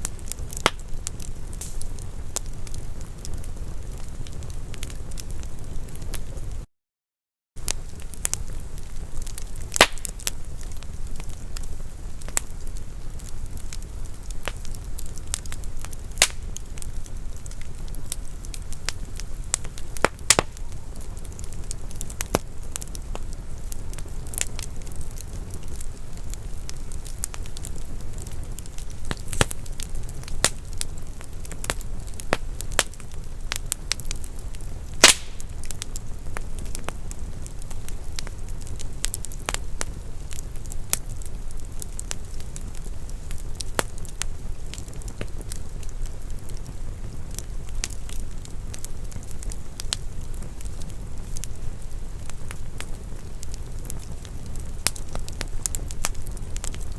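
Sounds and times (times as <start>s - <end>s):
fire crackling and popping: 0.0s - 6.7s, 7.6s - 56.9s
low rumble of flames: 0.0s - 6.7s, 7.6s - 56.9s.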